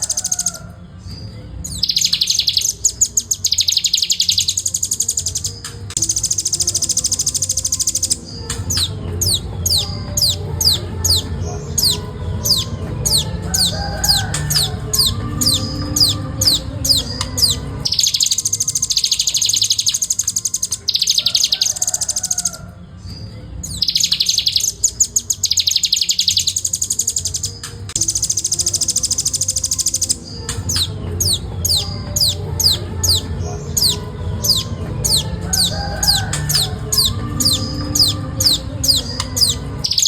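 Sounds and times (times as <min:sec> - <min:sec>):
fast high bird trilling: 0:00.0 - 0:00.8, 0:01.6 - 0:22.7, 0:23.6 - 0:40.0
bird singing sharp high notes: 0:00.0 - 0:22.6, 0:23.6 - 0:40.0.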